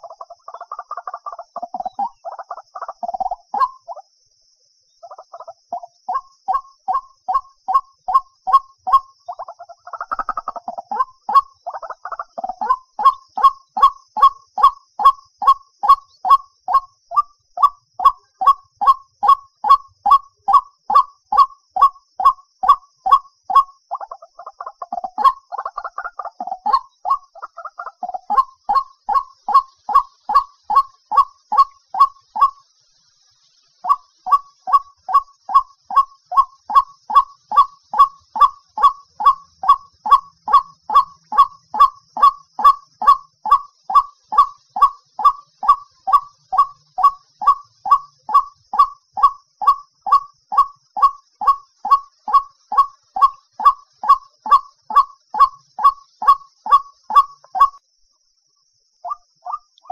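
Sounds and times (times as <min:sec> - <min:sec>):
waterhen calling: 0:00.0 - 0:04.0, 0:05.0 - 0:32.7, 0:33.6 - 0:57.8, 0:59.0 - 0:59.9.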